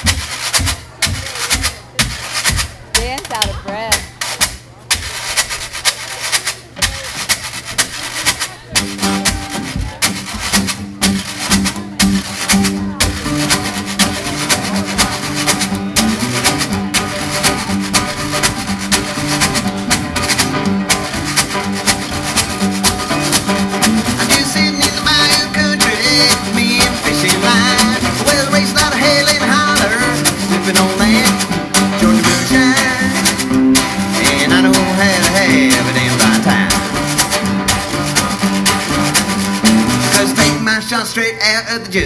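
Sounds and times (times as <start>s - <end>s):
banjo picking: 0.0s - 41.2s
washboard rhythm: 0.0s - 41.2s
acoustic guitars strumming: 0.0s - 42.0s.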